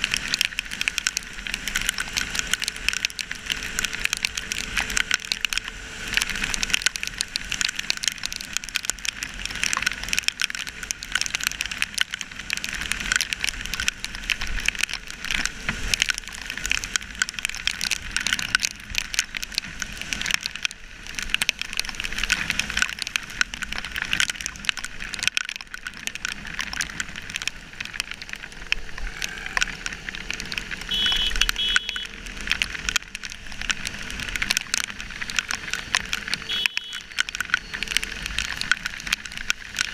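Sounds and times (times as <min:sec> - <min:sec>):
rain spattering on camera housing: 0:00.0 - 0:39.9
wet-road traffic noise: 0:00.0 - 0:39.9.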